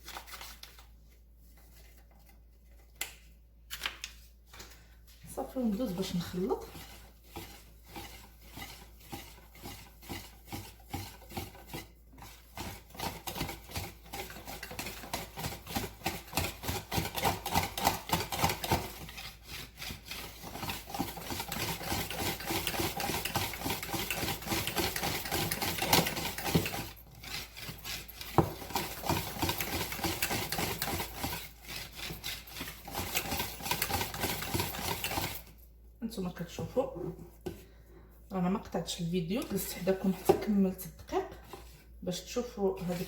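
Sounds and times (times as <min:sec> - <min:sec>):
batter stirred in a bowl: 0:00.0 - 0:43.0.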